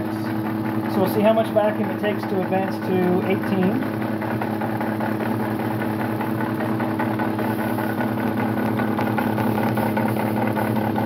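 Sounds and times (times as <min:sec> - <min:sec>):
test stand motor humming: 0:00.0 - 0:11.0.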